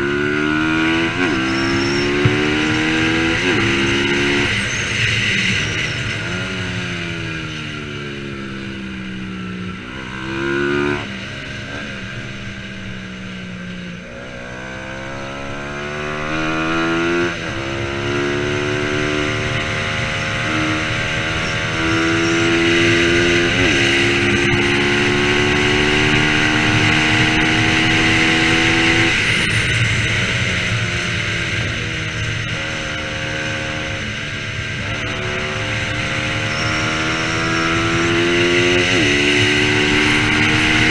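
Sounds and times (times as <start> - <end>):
motorcycle engine racing: 0.0 - 40.9.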